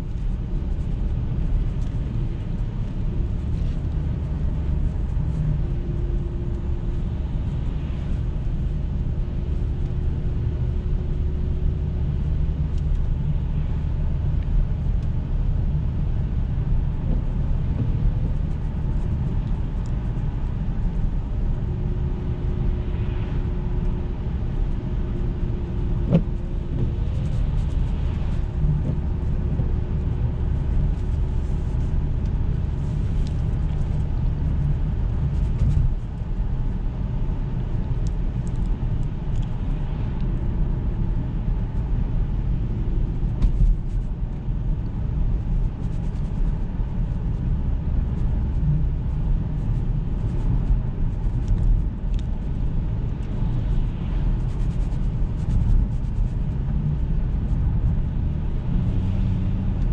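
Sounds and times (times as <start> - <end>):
car engine rumbling: 0.0 - 59.9
road noise: 0.0 - 59.9.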